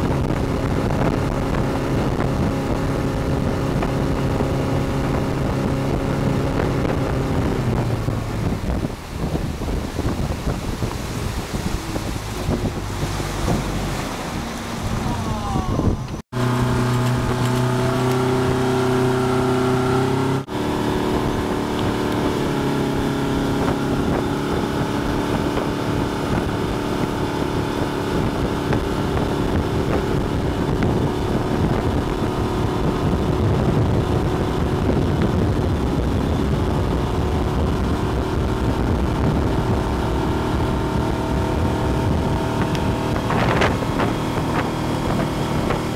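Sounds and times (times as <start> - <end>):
motorboat engine running: 0.0 - 45.9
rushing wake water: 0.0 - 45.9
wind buffeting microphone: 0.0 - 45.9.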